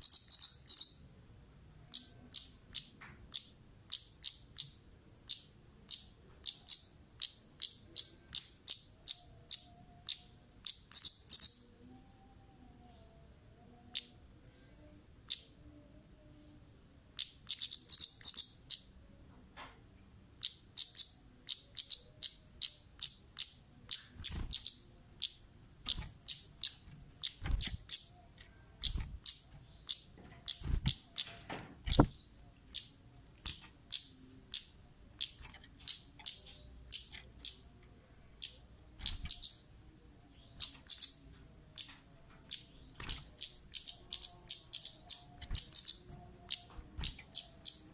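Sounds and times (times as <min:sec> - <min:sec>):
bird chirping: 0:00.0 - 0:01.2, 0:01.8 - 0:47.9.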